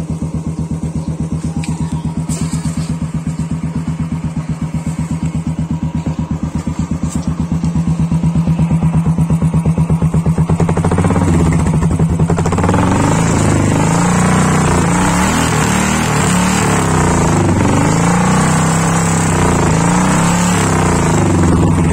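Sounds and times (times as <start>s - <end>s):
motorcycle engine idling and revving: 0.0s - 21.9s.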